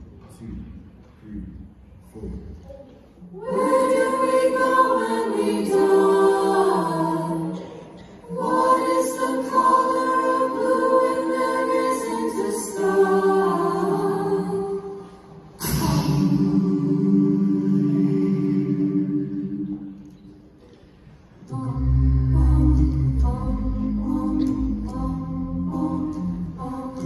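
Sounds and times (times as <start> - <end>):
a cappella group singing chords: 3.3 - 27.0.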